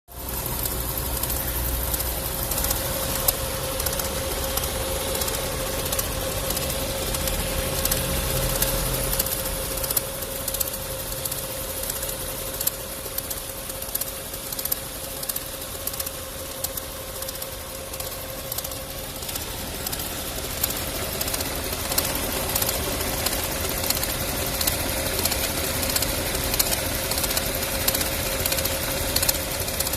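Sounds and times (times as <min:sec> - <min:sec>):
engine idling with rattling knock: 0:00.1 - 0:29.9
steady whine: 0:00.1 - 0:29.9.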